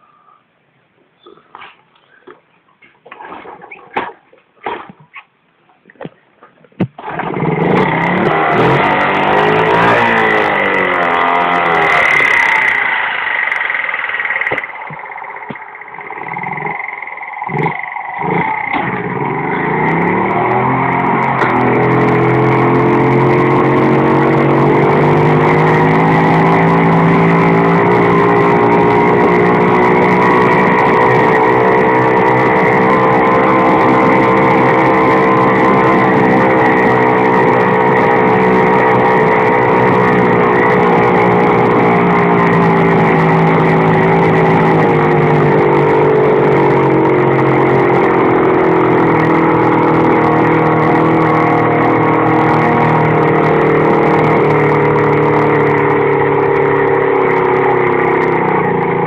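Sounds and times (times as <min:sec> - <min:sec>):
small motorcycle engine under load: 0:06.8 - 0:59.0.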